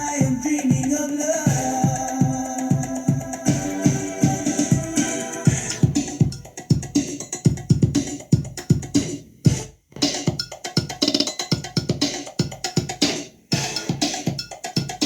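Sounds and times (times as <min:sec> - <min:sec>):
drum machine beat: 0:00.0 - 0:15.0.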